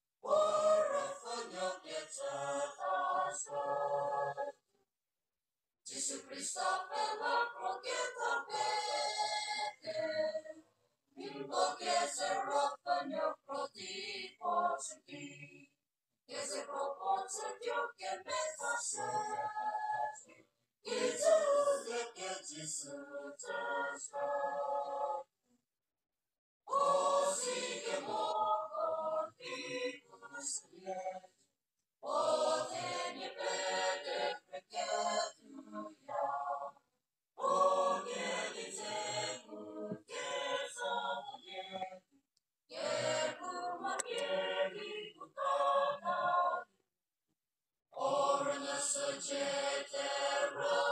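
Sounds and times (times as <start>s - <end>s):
mixed choir singing: 0.2s - 4.6s, 5.9s - 10.6s, 11.2s - 15.6s, 16.3s - 25.3s, 26.7s - 31.3s, 32.0s - 36.8s, 37.4s - 42.0s, 42.7s - 46.7s, 47.9s - 50.9s.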